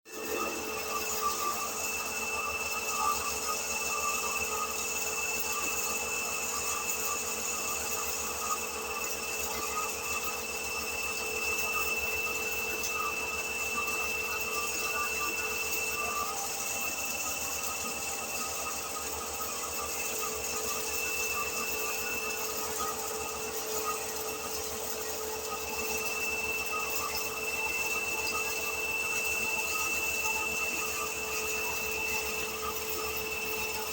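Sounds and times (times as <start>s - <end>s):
constant high whine: 0.1s - 33.9s
grinding mill running: 0.1s - 33.9s.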